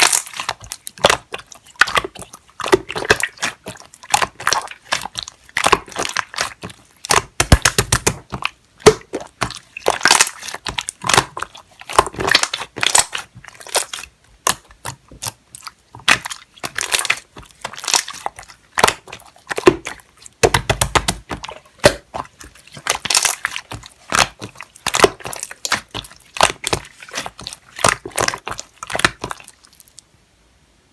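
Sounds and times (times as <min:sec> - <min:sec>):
slime squishing with sticky pops: 0:00.0 - 0:30.0.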